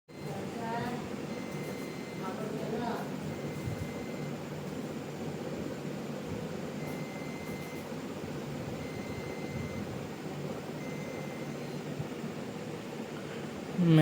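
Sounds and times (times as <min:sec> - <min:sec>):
computer fans whirring: 0:00.1 - 0:14.0.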